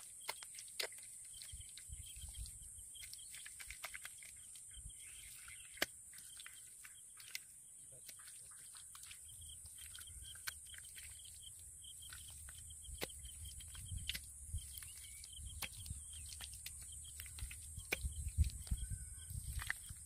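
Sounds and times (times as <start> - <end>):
wet mud squelching by hand: 0.0 - 20.0.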